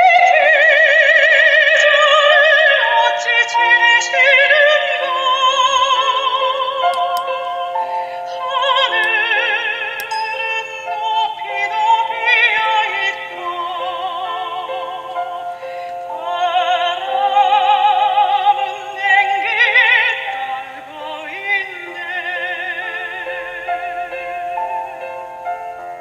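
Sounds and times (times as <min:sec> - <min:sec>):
operatic soprano singing: 0:00.0 - 0:26.0
instrumental accompaniment: 0:03.3 - 0:26.0.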